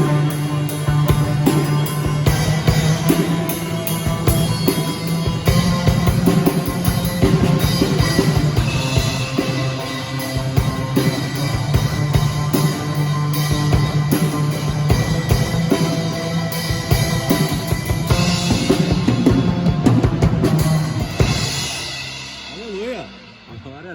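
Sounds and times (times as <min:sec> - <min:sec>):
drum kit beating fast: 0:00.0 - 0:23.9
held bass notes: 0:00.0 - 0:23.9.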